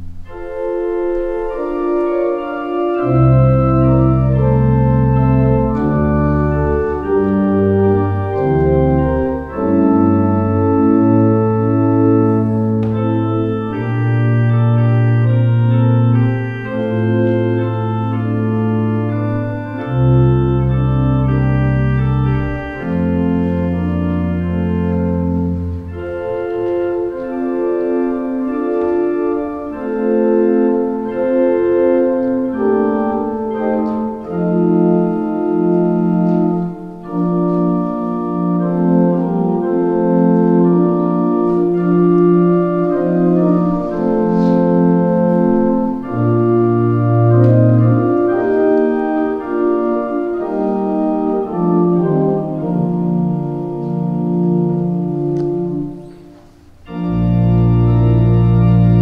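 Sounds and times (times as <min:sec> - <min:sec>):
low organ bass notes: 0:00.0 - 0:59.0
organ chords: 0:00.0 - 0:59.0.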